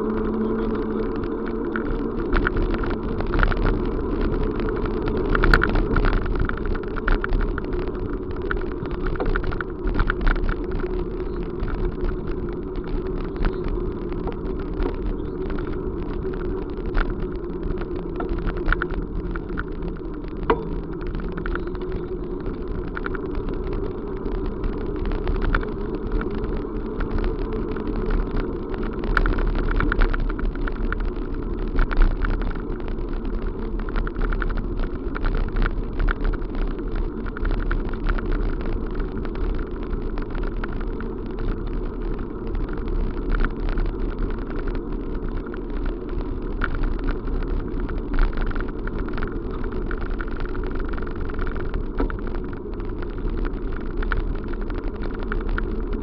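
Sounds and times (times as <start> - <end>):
small rattles and clicks: 0.0 - 56.0
vehicle running noise: 0.0 - 56.0.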